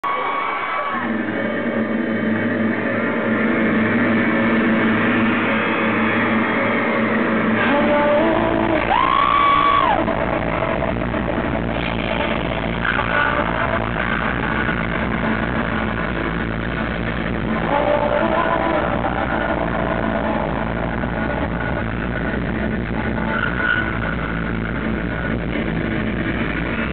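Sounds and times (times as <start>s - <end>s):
crowd shouting and cheering: 0.0s - 26.9s
rock music over sound system: 0.1s - 26.9s.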